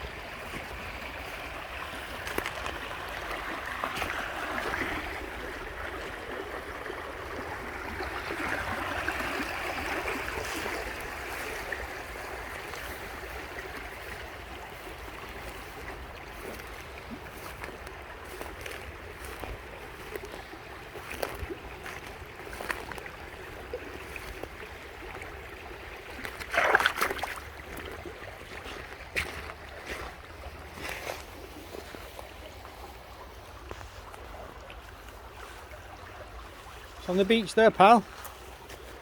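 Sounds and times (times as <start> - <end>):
river babbling over stones: 0.0 - 39.0.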